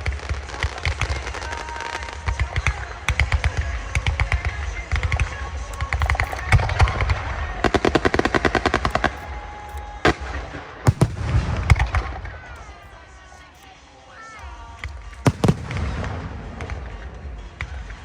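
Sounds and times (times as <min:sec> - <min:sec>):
heavy firework bangs: 0:00.0 - 0:13.4, 0:14.8 - 0:18.0
fireworks cracking rapidly: 0:00.0 - 0:18.0.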